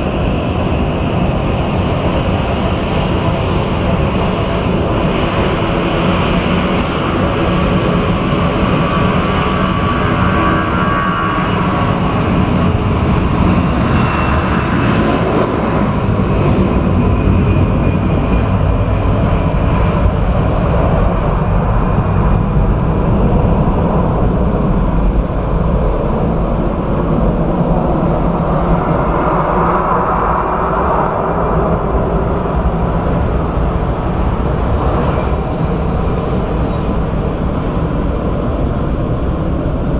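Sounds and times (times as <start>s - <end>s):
jet airliner taxiing: 0.0s - 39.9s.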